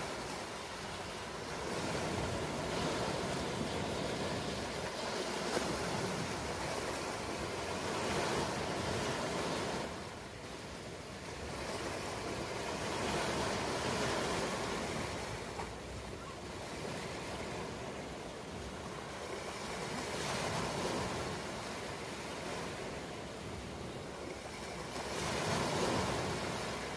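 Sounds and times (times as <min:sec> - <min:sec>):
ocean waves washing onto shore: 0:00.0 - 0:26.9.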